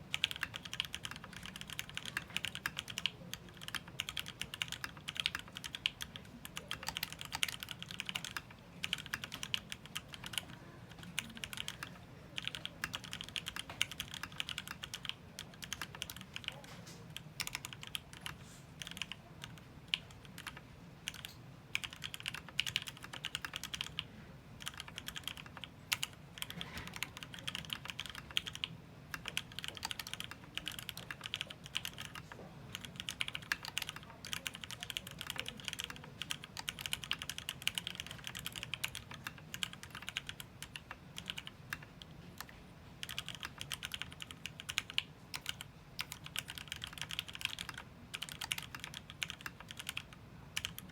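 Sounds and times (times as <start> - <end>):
typing on mechanical keyboard: 0.0 - 50.9.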